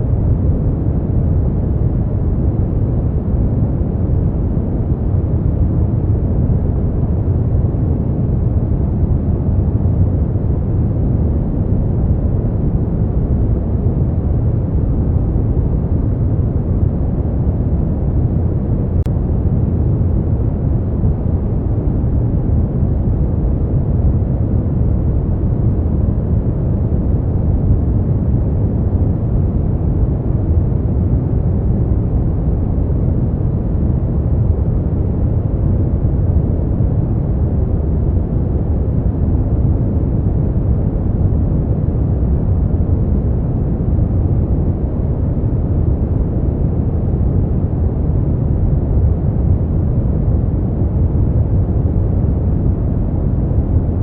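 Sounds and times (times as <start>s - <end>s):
deep rumbling brown noise: 0.0s - 54.0s.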